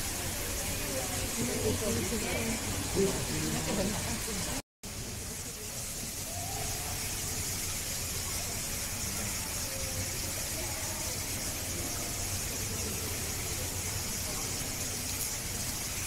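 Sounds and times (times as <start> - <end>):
background hiss: 0.0 - 16.0
faint distant voices: 0.0 - 16.0.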